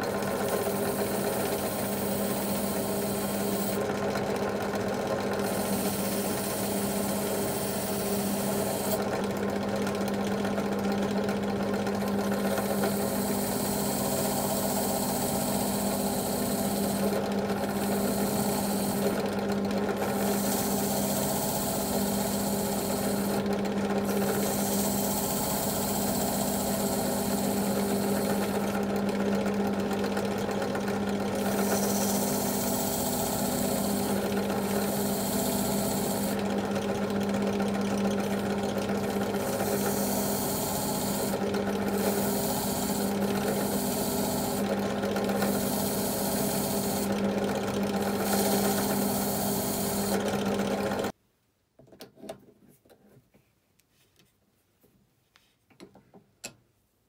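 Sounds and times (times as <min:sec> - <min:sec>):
drill press motor humming: 0:00.0 - 0:51.2.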